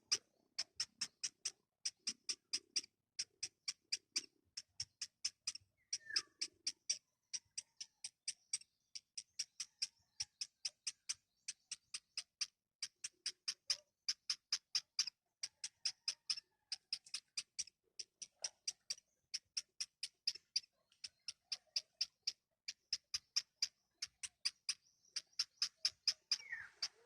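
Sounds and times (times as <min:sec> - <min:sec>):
baby birds cheeping: 0:00.0 - 0:27.0.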